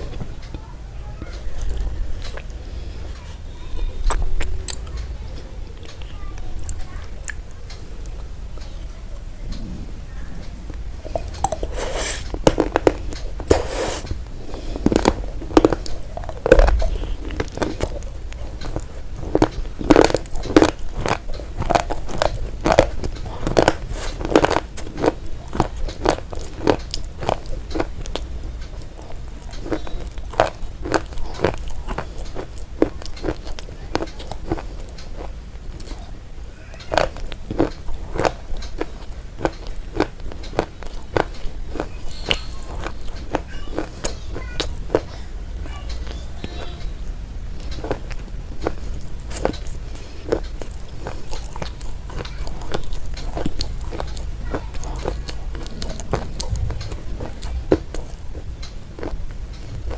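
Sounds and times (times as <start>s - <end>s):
chewing crunchy food: 0.0s - 8.8s, 10.4s - 59.9s.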